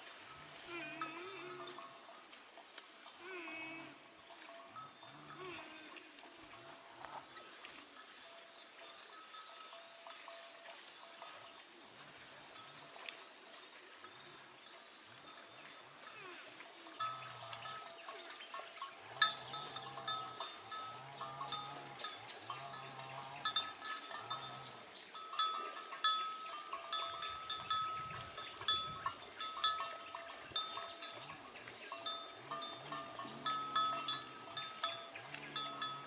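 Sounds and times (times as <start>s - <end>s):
livestock bells clinking: 0.0s - 2.4s, 4.3s - 5.8s, 6.5s - 11.8s, 12.4s - 36.0s.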